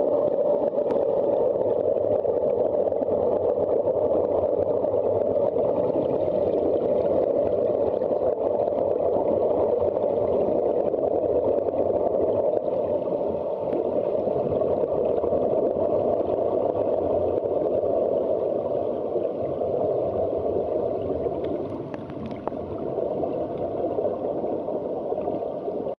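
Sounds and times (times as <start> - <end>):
underwater air bubbles gurgling: 0.0 - 26.0.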